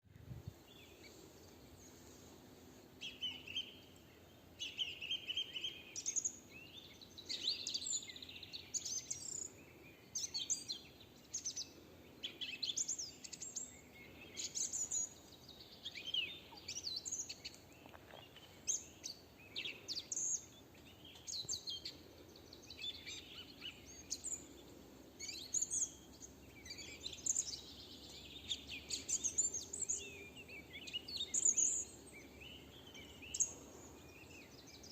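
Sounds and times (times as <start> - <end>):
songbirds singing and calling: 0.0 - 34.9
faint steady background noise: 0.1 - 34.9.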